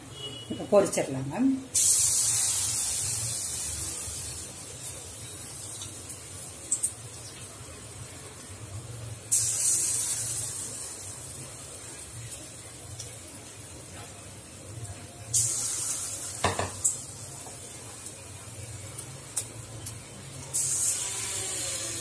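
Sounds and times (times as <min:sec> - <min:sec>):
prawns sizzling in hot oil: 0:00.7 - 0:22.0.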